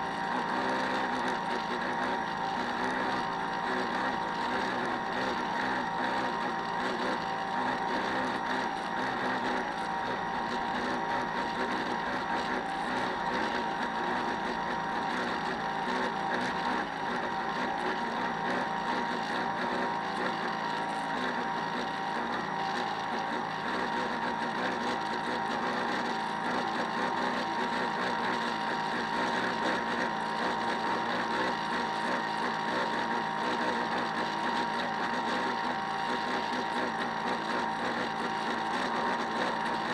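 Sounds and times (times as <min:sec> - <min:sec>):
small electric motor whine: 0:00.0 - 0:39.9.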